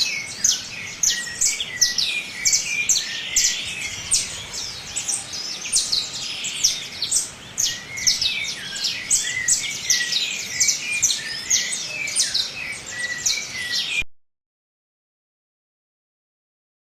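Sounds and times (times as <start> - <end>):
flock of birds twittering: 0.0 - 14.0.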